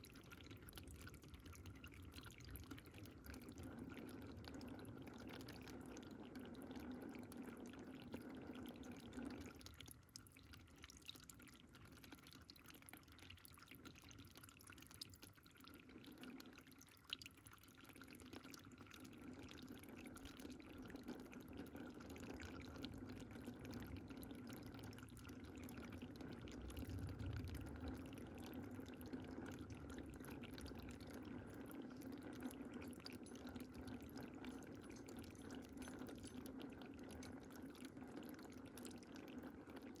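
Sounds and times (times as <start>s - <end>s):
water trickling and dripping: 0.0s - 40.0s.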